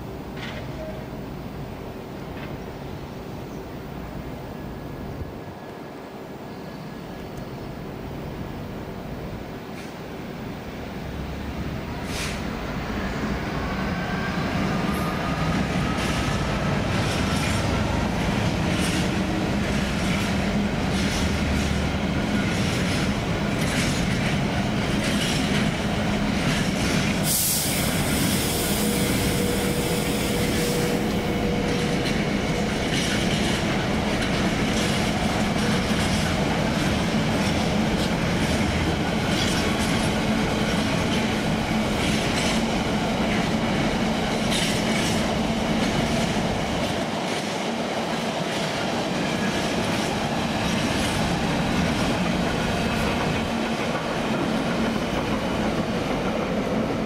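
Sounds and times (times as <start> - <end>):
train wheels rumbling on rails: 0.0 - 5.4, 6.8 - 57.0.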